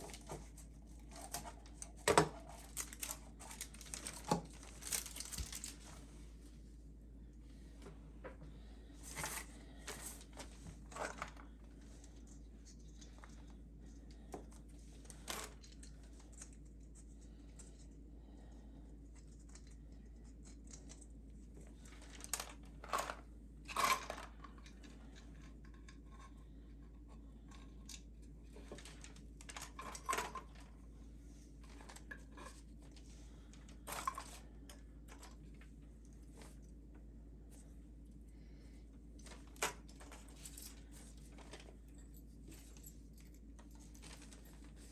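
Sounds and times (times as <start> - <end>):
rustling and crinkling: 0.0 - 6.8, 7.5 - 18.1, 19.1 - 44.9
faint steady hum: 0.0 - 44.9.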